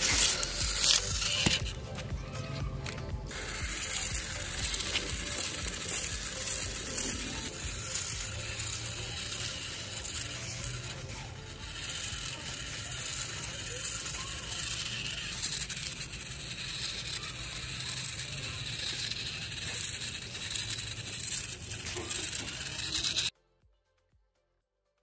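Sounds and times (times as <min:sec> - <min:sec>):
toy motor whirring: 0:00.0 - 0:23.4.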